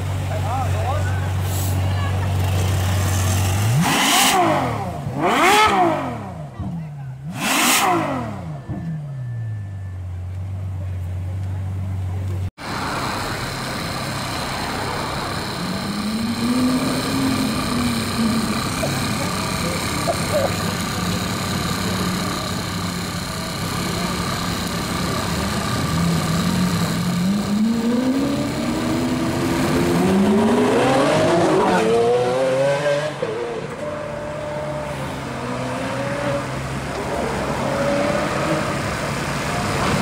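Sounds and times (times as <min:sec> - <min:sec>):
car engine accelerating hard: 0:00.0 - 0:09.0, 0:12.6 - 0:40.0.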